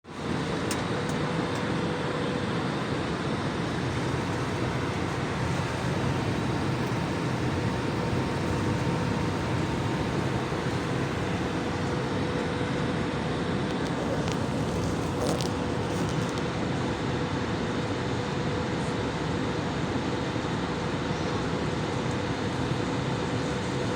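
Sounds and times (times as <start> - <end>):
airliner cabin engine and air noise: 0.1 - 23.9
faint constant hum: 0.1 - 23.9.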